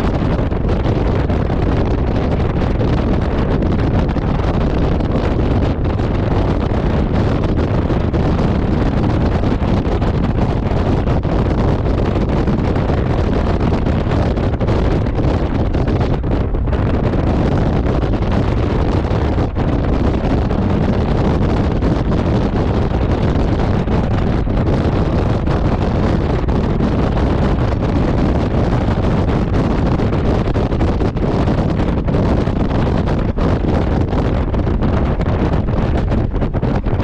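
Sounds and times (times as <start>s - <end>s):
motorcycle running and road noise: 0.0s - 37.0s
wind rush on microphone: 0.0s - 37.0s.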